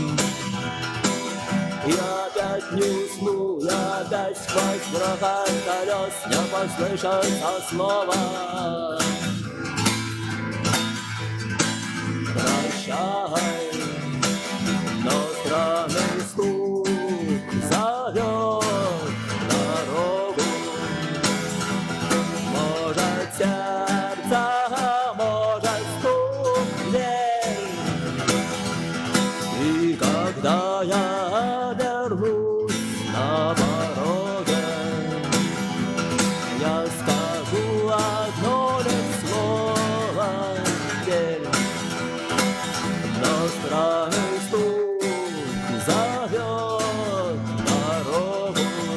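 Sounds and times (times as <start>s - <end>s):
guitar strummed: 0.0s - 48.9s.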